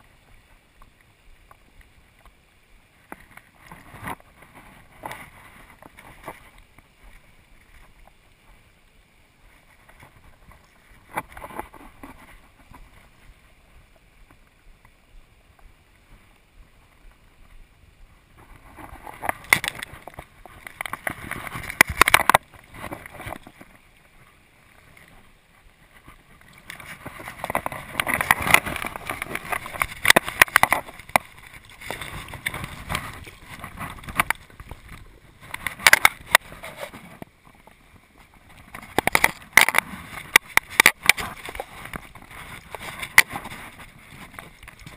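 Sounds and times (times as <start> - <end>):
river water running: 0.0 - 44.9.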